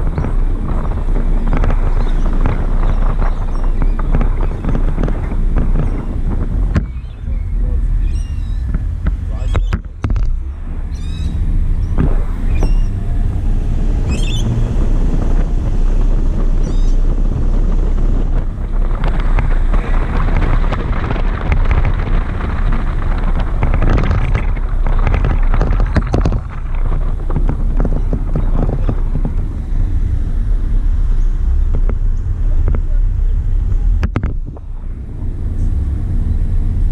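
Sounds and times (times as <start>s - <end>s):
road and car rumble: 0.0s - 36.9s
wind buffeting microphone: 0.0s - 36.9s.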